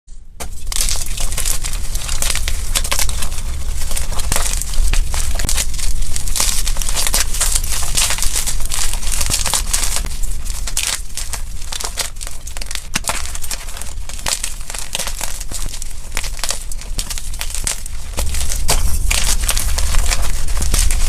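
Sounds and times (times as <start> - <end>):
chalk blocks crunching: 0.4 - 21.0.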